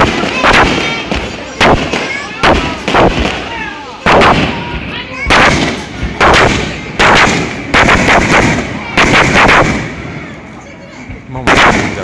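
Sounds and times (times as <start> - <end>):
fireworks booming with echo: 0.0 - 12.0.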